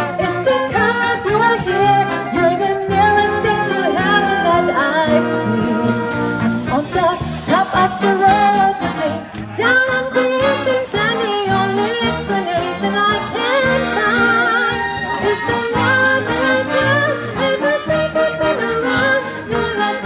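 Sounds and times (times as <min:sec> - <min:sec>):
wind band with saxophones: 0:00.0 - 0:20.0
woman singing over speaker: 0:00.0 - 0:20.0.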